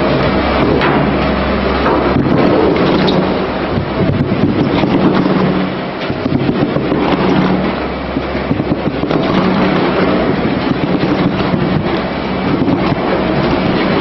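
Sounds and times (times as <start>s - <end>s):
machinery clattering: 0.0s - 14.0s.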